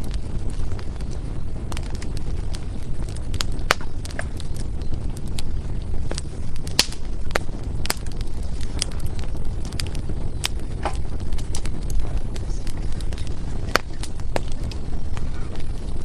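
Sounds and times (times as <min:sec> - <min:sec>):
firewood crackling and popping: 0:00.0 - 0:16.0
low fire rumble: 0:00.0 - 0:16.0.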